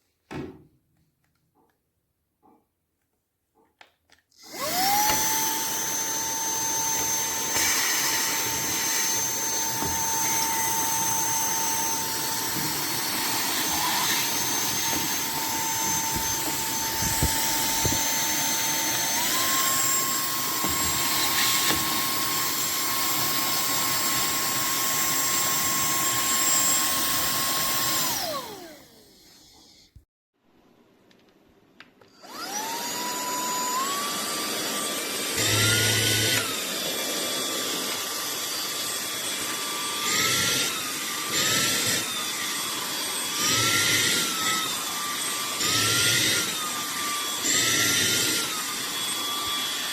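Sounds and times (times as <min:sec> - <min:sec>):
handheld vacuum cleaner whine: 0:04.4 - 0:30.0, 0:32.0 - 0:49.9.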